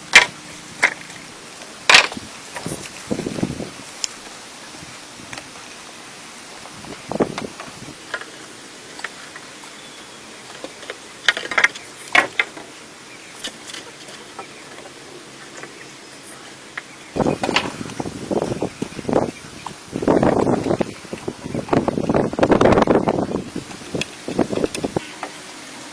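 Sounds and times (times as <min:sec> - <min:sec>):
background hiss: 0:00.0 - 0:25.9.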